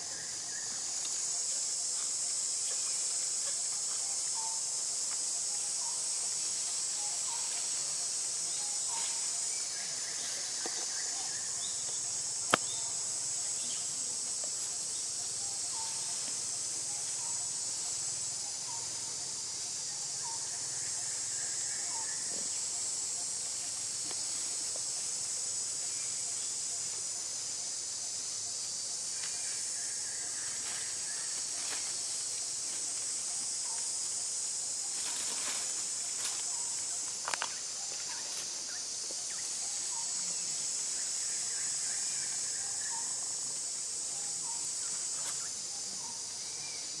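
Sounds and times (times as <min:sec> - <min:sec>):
high-pitched insect chorus: 0:00.0 - 0:47.0.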